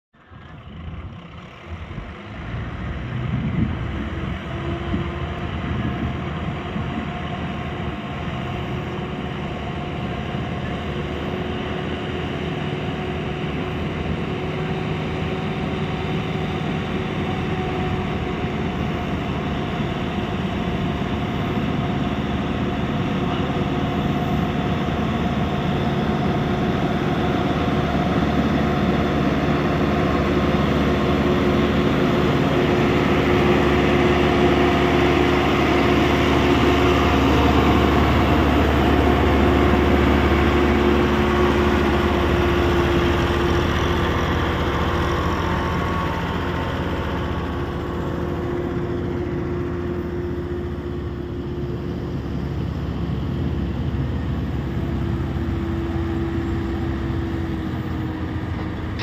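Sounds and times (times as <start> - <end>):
tractor diesel engine under load: 0.1 - 59.0.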